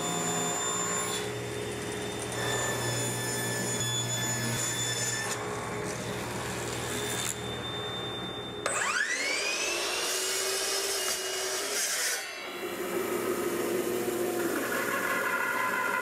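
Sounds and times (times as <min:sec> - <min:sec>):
table saw running: 0:00.0 - 0:08.0, 0:08.6 - 0:16.0
miter saw whine: 0:00.0 - 0:16.0.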